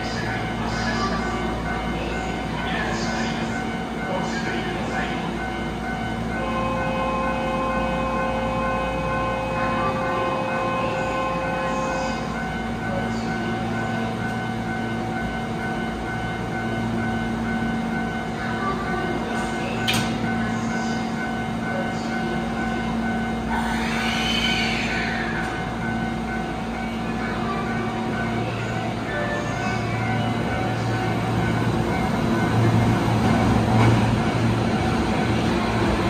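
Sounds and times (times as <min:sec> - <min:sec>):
electric train humming: 0:00.0 - 0:36.0.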